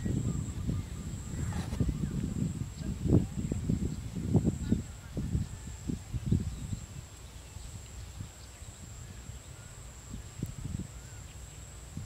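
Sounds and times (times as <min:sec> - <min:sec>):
faint bird chirps: 0:00.0 - 0:11.8
wind rumbling on microphone: 0:00.0 - 0:12.0.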